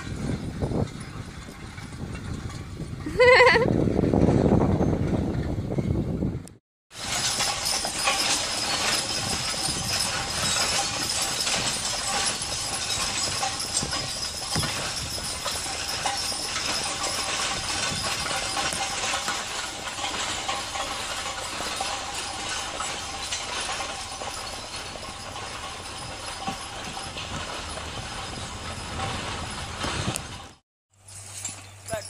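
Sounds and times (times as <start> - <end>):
disc harrow rattling and clanking: 0.0 - 32.0
hooves clip-clopping on dirt: 0.0 - 32.0.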